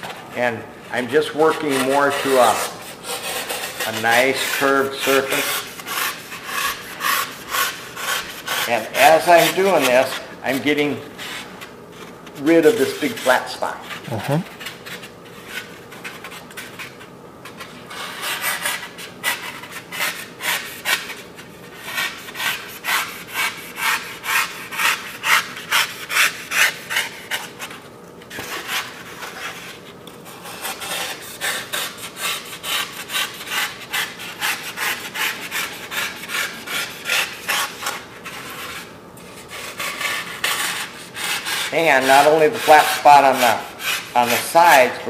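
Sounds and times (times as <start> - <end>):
knife rasping foam: 1.0 - 44.9.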